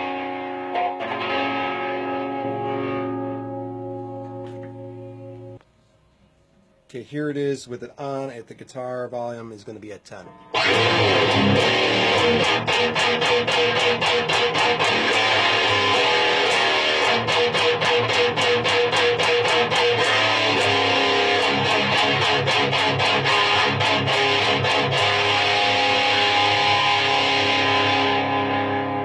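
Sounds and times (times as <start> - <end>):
distorted electric guitar riff: 0.0 - 5.6, 10.3 - 29.0.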